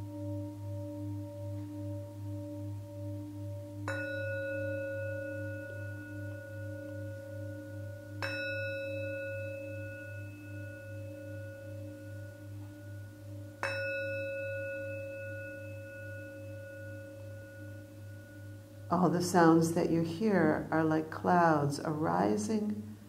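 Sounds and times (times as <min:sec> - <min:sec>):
singing bowl ringing: 0:00.0 - 0:22.3
low pulsing hum: 0:00.0 - 0:23.0.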